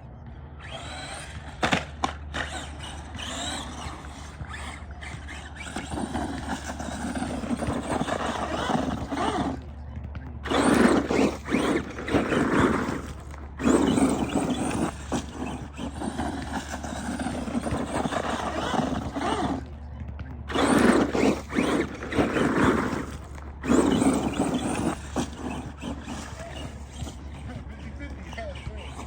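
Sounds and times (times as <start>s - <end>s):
rc truck motors whining: 0.0s - 29.0s
tyres scrabbling on concrete: 0.6s - 9.8s, 10.4s - 29.0s.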